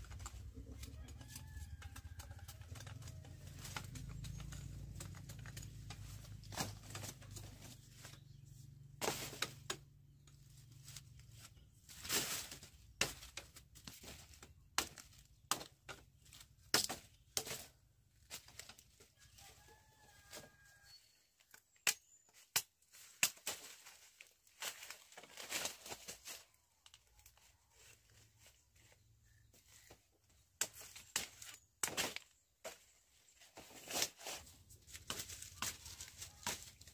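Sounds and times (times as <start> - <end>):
sugarcane stalks being cut and stripped: 0.0 - 36.9.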